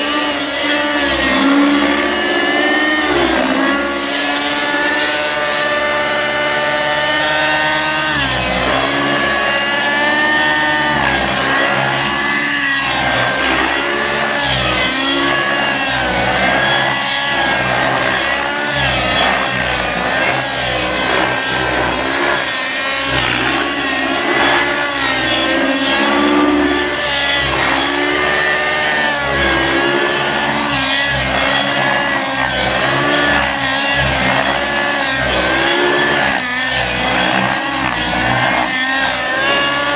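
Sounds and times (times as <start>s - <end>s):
model helicopter engine and rotor: 0.0s - 39.9s.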